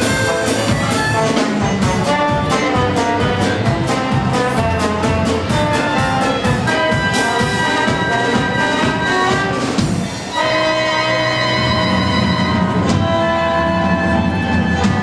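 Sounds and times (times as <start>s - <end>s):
orchestra playing: 0.0s - 15.0s.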